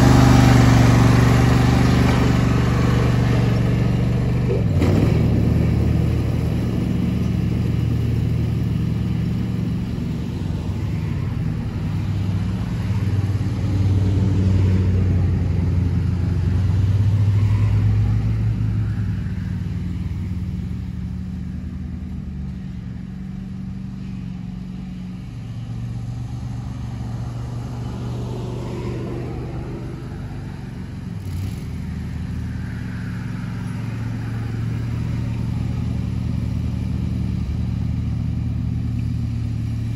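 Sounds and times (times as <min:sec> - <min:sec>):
riding mower engine mowing grass: 0:00.0 - 0:39.9.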